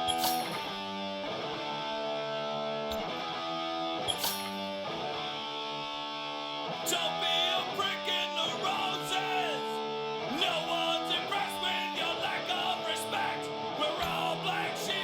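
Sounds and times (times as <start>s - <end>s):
guitar chords: 0.0s - 15.0s.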